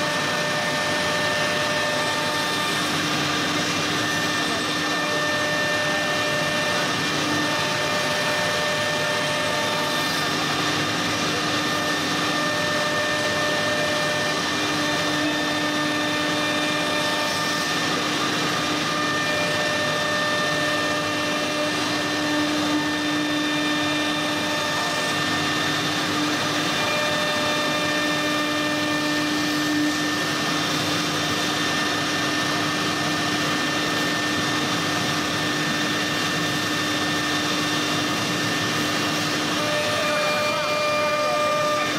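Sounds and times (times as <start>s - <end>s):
router whining milling wood: 0.0s - 41.9s.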